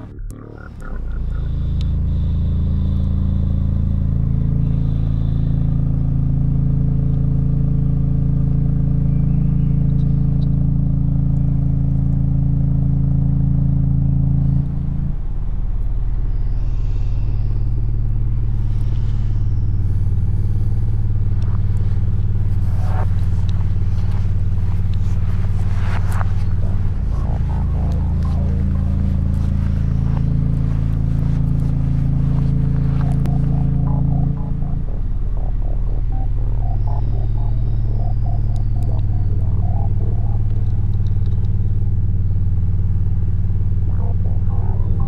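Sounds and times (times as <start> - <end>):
loud low drone of held tones: 0.0 - 45.0.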